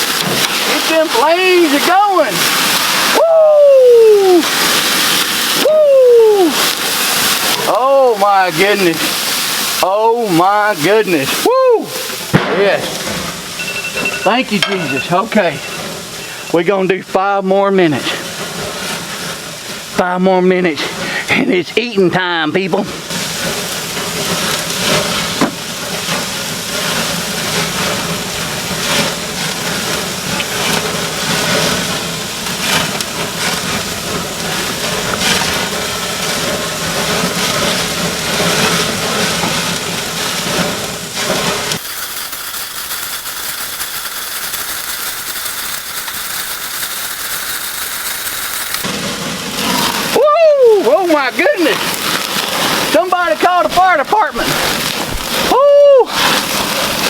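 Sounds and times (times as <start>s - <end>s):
meat sizzling on a grill: 0.0s - 57.0s.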